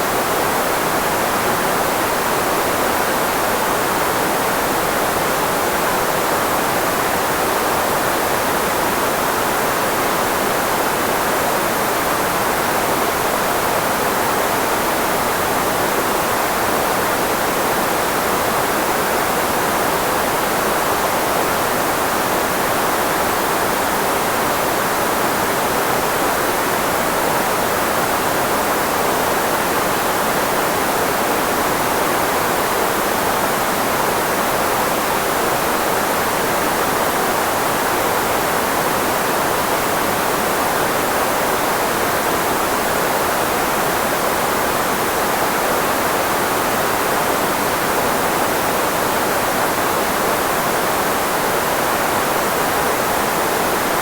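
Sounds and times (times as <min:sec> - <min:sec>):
filtered white noise hiss: 0:00.0 - 0:54.0.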